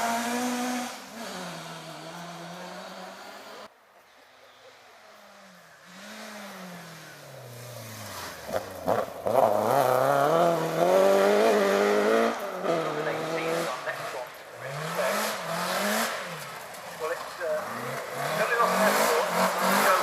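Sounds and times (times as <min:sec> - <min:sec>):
rally car engine accelerating: 0:00.0 - 0:03.7, 0:05.2 - 0:20.0.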